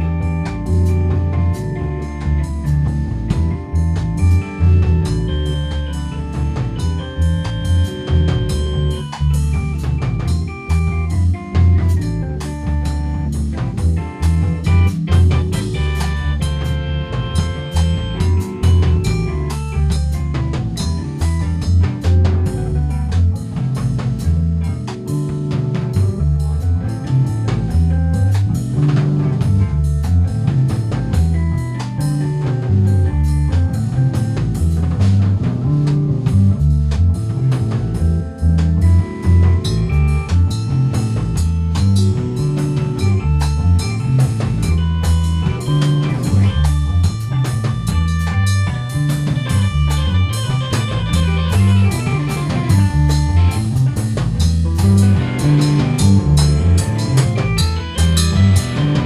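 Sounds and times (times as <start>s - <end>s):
drum kit beat: 0.0s - 59.0s
electric bass: 0.0s - 59.0s
electric guitar: 0.0s - 59.0s
electric piano: 0.0s - 59.0s
organ: 0.0s - 59.0s.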